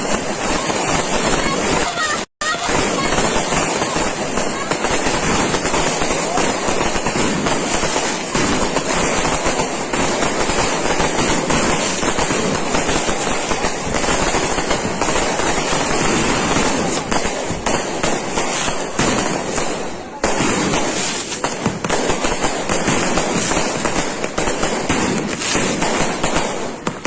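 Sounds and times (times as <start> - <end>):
firecrackers crackling: 0.0 - 27.0.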